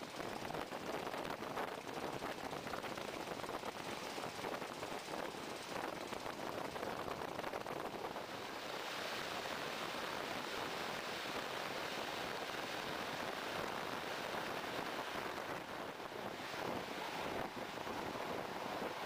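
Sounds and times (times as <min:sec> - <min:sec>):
wind through train window: 0:00.0 - 0:19.0.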